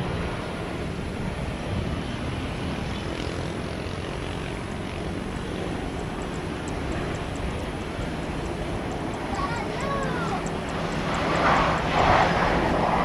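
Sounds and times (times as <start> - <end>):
jet airliner engine noise: 0.0 - 13.0.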